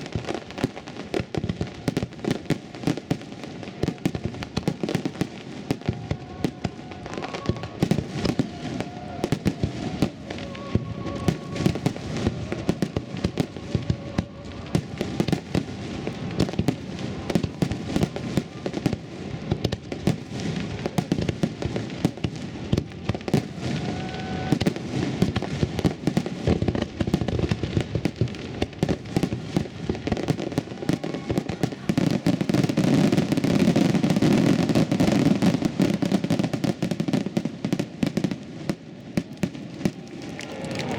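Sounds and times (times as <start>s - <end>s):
fireworks bursts and crackling: 0.0s - 40.9s.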